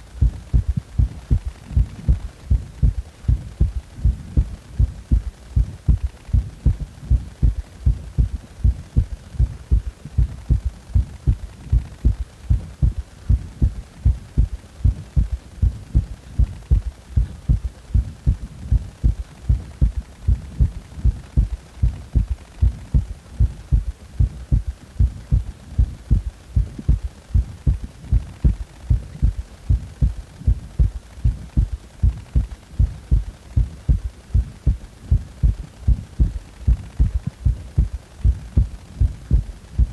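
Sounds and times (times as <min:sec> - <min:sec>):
heartbeat low thuds: 0:00.0 - 0:39.9.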